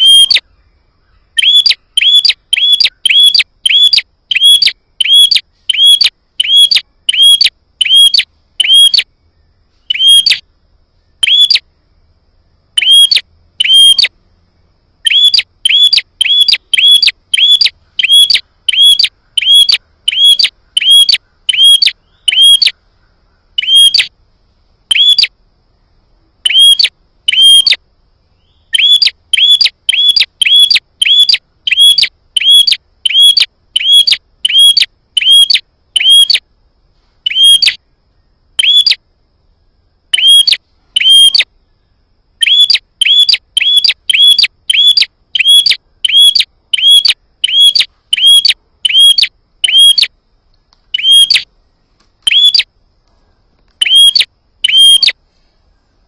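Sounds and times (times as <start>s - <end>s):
bird chirping: 0.0s - 24.2s, 24.9s - 36.5s, 37.2s - 51.5s, 52.2s - 56.0s.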